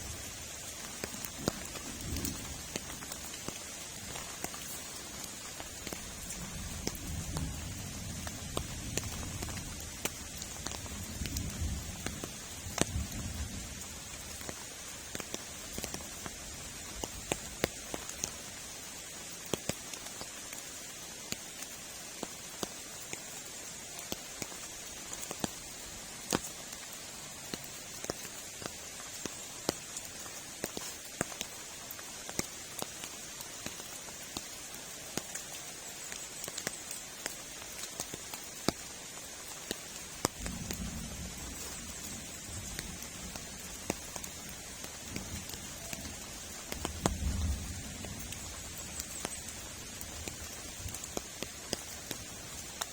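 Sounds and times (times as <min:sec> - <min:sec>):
steady rain hiss: 0:00.0 - 0:52.9
water drips: 0:00.0 - 0:52.9.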